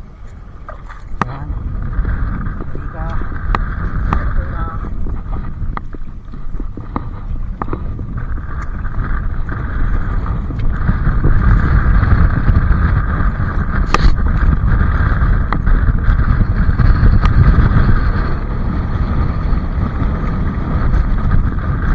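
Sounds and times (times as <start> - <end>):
sea water washing against rocks: 0.0 - 21.9
wind rumbling on microphone: 0.0 - 21.9.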